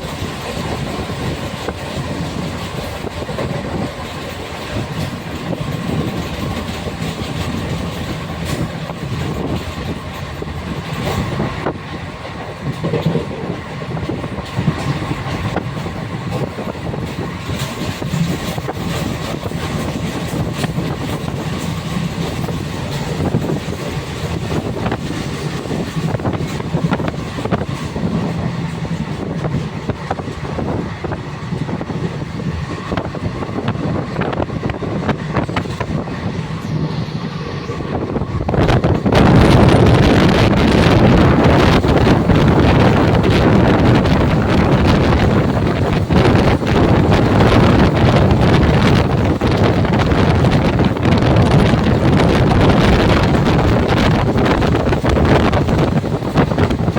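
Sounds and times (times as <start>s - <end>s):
train rumbling on rails: 0.0s - 56.9s
train wheels clicking: 0.0s - 56.9s.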